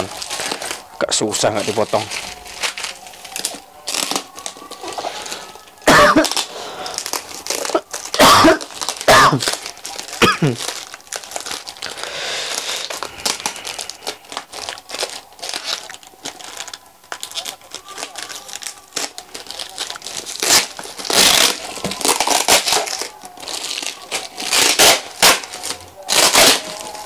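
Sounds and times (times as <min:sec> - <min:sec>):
plastic wrapping crinkling: 0:00.0 - 0:27.0.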